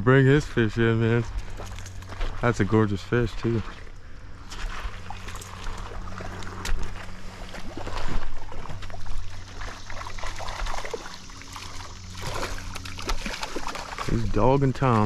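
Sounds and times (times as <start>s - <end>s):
creek water splashing: 0.2s - 15.0s.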